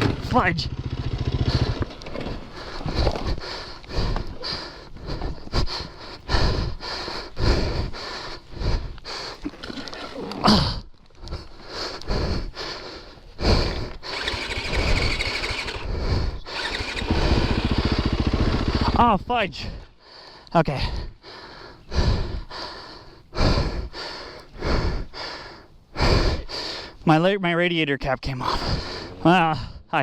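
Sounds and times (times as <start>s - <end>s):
heavy breathing: 1.0s - 19.0s, 19.6s - 27.1s, 28.3s - 30.0s.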